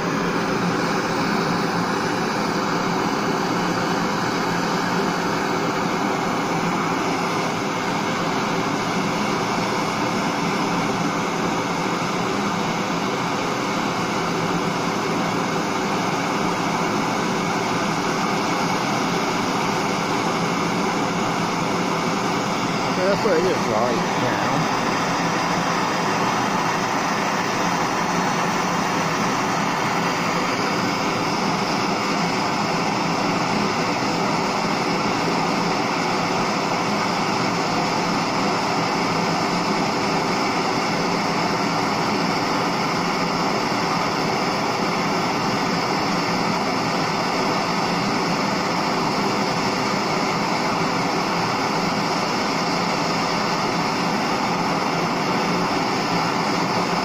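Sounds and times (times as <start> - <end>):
gas torch flame hissing: 0.0 - 57.0.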